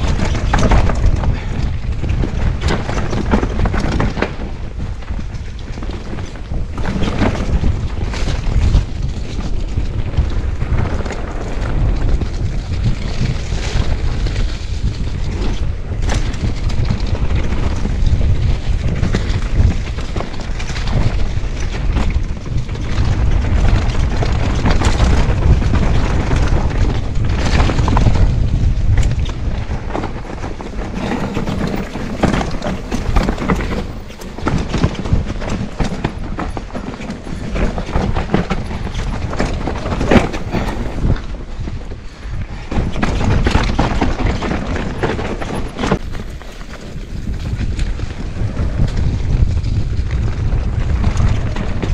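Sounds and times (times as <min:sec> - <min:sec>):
bike clattering over bumps: 0:00.0 - 0:51.9
wind buffeting microphone: 0:00.0 - 0:51.9.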